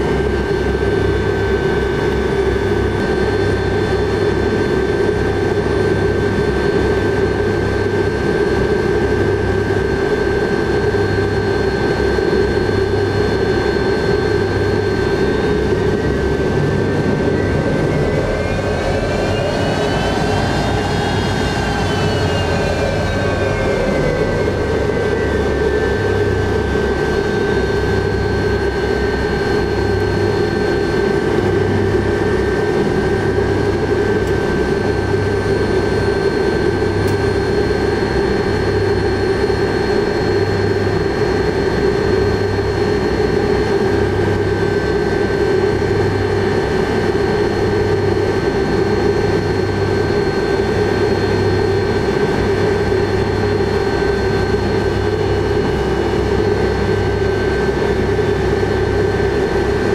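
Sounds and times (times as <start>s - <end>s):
jet engines rumbling with turbine whine: 0.0s - 59.9s
pulsing low hum: 0.0s - 59.9s.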